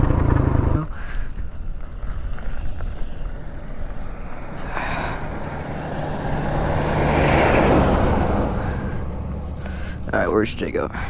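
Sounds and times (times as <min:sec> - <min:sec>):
wind on microphone: 0:00.0 - 0:09.0
dirt bike engine running: 0:00.0 - 0:11.0.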